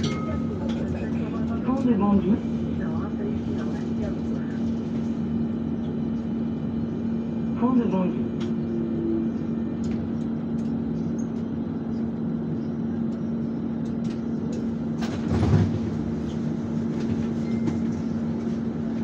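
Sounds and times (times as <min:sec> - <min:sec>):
loud rumble and clatter: 0:00.0 - 0:19.0
tram hum with constant tone: 0:00.0 - 0:19.0.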